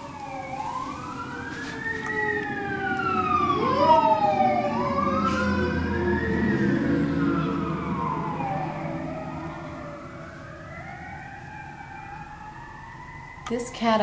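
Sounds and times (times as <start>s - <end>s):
low vehicle rumble: 0.0s - 13.5s
sirens wailing: 0.0s - 14.0s.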